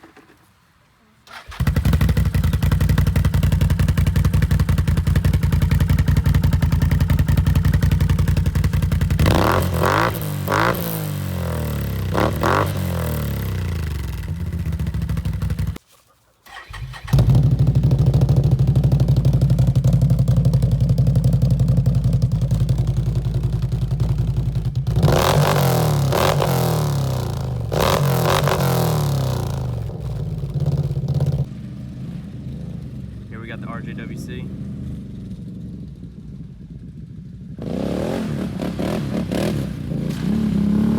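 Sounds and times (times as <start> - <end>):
atv engine idling and revving: 1.3 - 15.8, 16.6 - 40.9.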